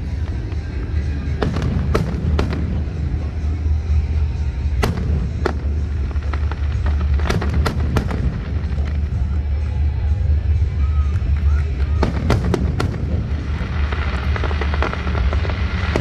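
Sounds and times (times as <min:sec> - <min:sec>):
fireworks bangs and cracks: 0:00.0 - 0:16.0
low rumble: 0:00.0 - 0:16.0.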